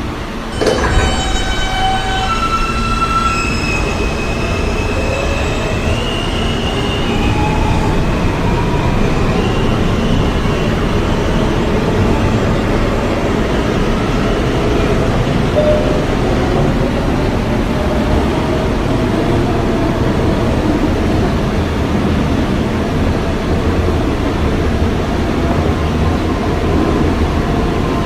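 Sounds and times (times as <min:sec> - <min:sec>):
subway train electric whine: 0:00.0 - 0:28.0.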